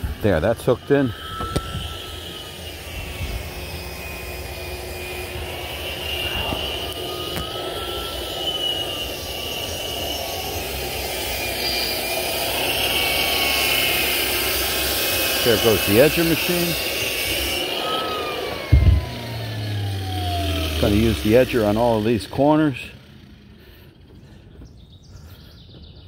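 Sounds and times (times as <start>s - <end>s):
floor sander motor whine: 0.0s - 25.8s.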